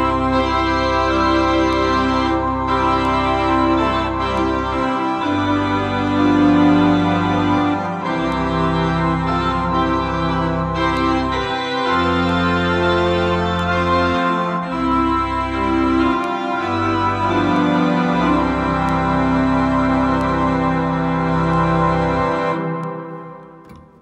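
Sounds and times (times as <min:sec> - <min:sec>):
electronic organ playing a hymn: 0:00.0 - 0:24.0.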